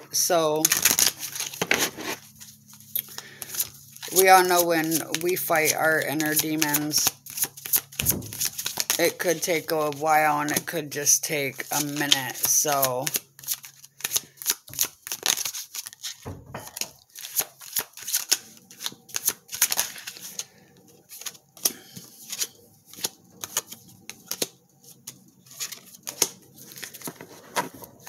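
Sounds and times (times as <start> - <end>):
cards being shuffled: 0.6 - 28.0.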